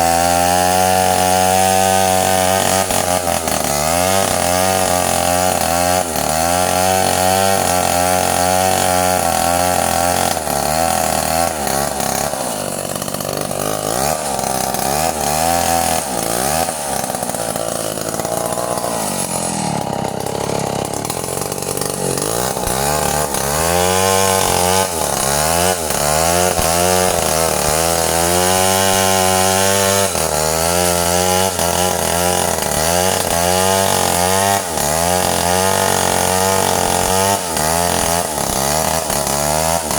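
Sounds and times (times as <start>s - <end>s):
chainsaw running at high speed: 0.0s - 39.9s.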